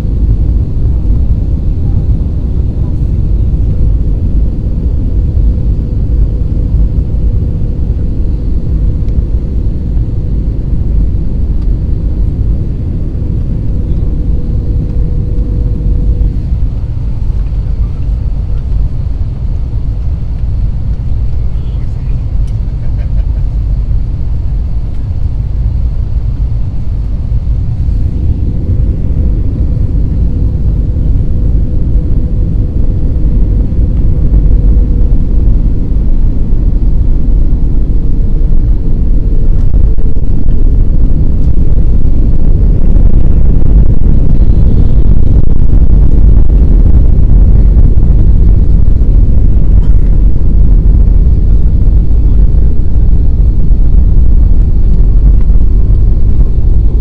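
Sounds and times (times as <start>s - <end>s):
airplane cabin low rumble: 0.0s - 57.0s.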